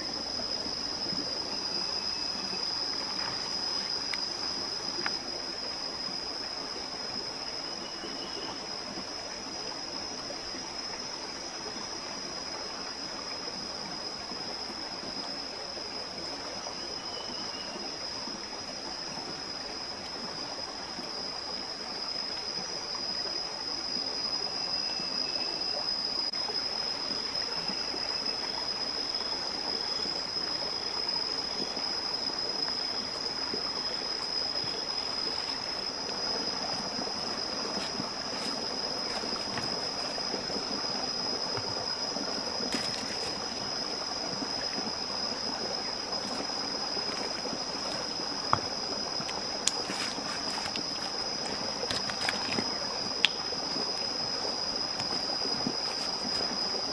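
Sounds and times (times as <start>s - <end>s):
high-pitched insect drone: 0.0s - 56.9s
stream running: 0.0s - 56.9s.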